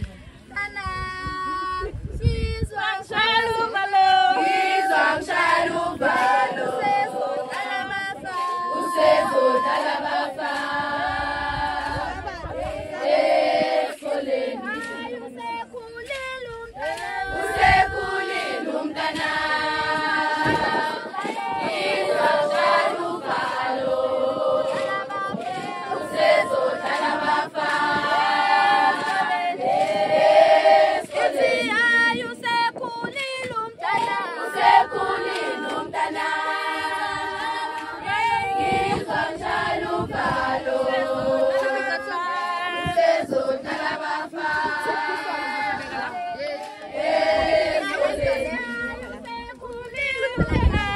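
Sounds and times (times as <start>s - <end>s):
women and girls singing: 0.0s - 50.9s.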